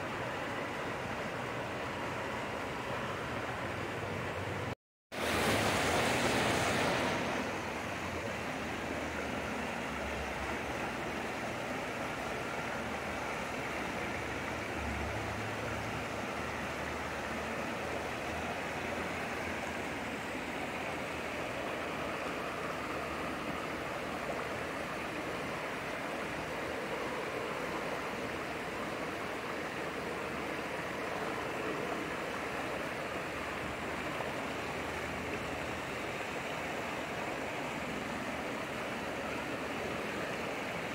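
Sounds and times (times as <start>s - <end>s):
creek rushing over stones: 5.1s - 40.9s.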